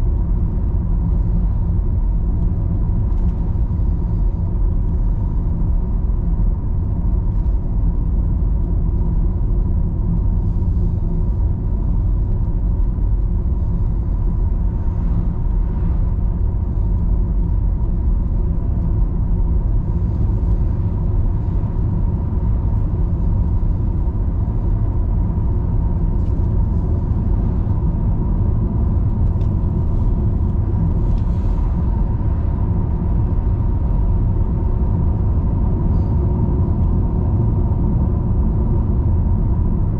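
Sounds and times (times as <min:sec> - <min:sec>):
car tyres and engine rumble: 0:00.0 - 0:39.9
faint steady whine: 0:00.0 - 0:39.9.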